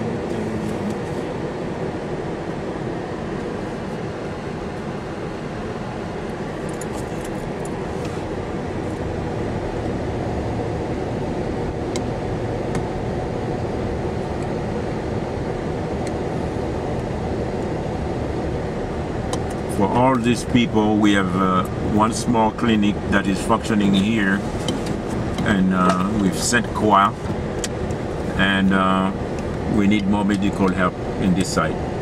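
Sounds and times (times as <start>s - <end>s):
vehicle rumbling: 0.0s - 32.0s.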